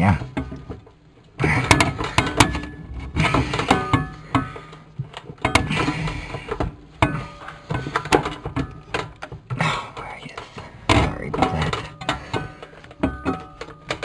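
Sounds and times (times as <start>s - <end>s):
metal tools clanking: 0.0s - 14.0s.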